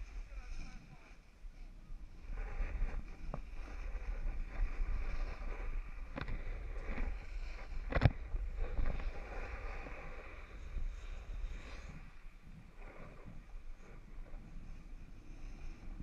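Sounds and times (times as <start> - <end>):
snowboard scraping over snow: 0.0 - 16.0
wind rumbling on microphone: 0.0 - 16.0.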